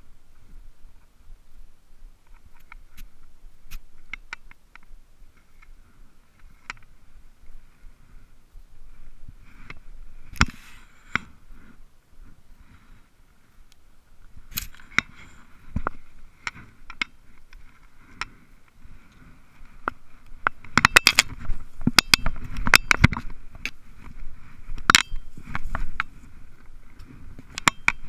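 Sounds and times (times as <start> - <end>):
footsteps through dry grass and brush: 4.9 - 27.6.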